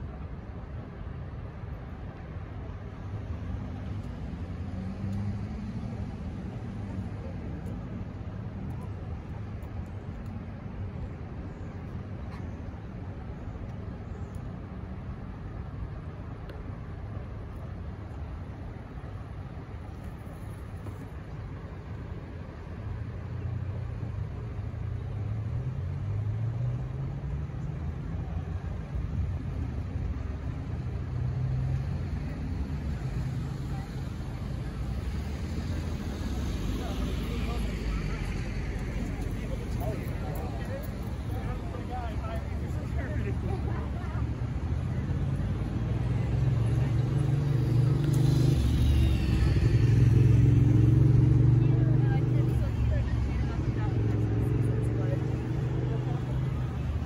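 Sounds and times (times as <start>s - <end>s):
road traffic rumble: 0.0s - 57.0s
vehicle engine hum: 0.0s - 57.0s.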